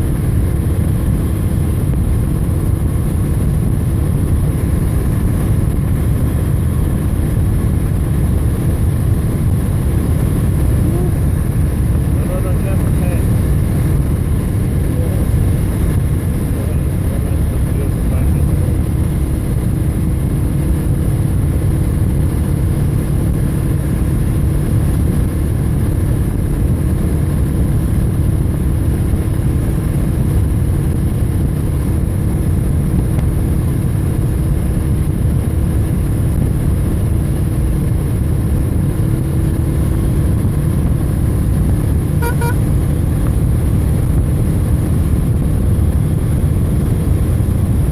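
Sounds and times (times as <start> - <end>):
motorcycle engine hum: 0.0 - 47.9
wind rumble on microphone: 0.0 - 47.9.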